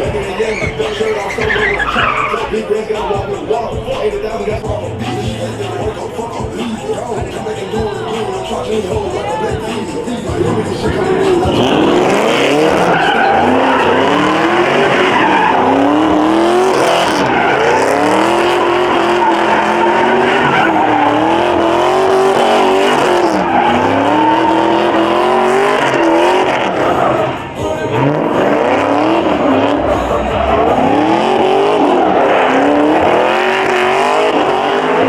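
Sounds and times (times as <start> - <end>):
car engine revving: 0.0 - 35.0
tyres squealing: 0.0 - 35.0.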